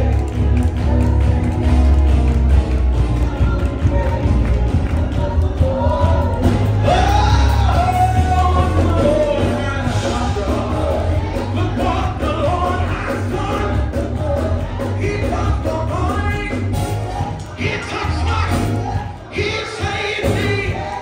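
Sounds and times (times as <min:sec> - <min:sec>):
amplified worship singing: 0:00.0 - 0:21.0
steady bass: 0:00.0 - 0:21.0.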